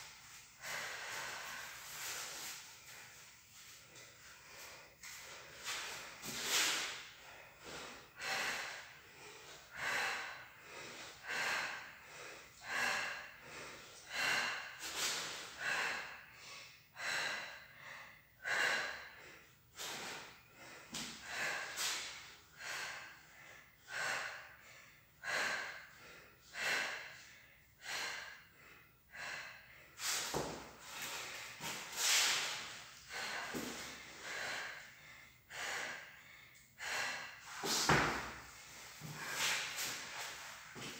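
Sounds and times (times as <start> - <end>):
woman breathing hard: 0.0 - 40.9.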